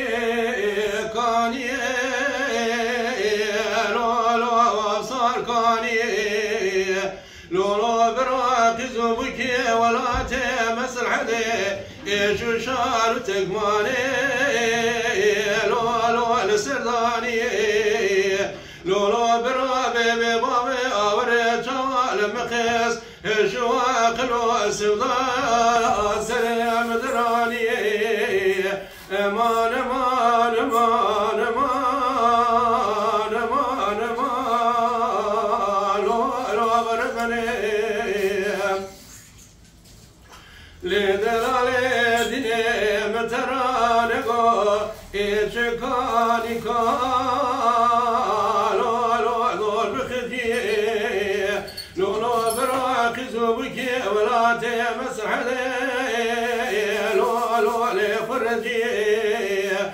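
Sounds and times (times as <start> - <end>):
man singing unaccompanied: 0.0 - 39.1, 40.8 - 59.9.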